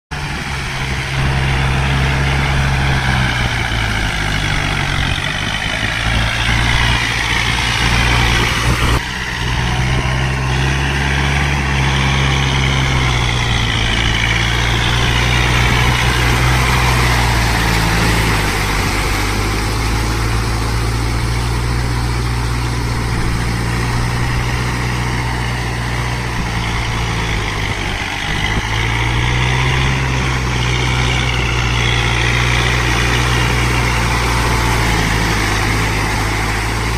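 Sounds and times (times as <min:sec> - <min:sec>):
tractor diesel engine running: 0:00.1 - 0:36.9.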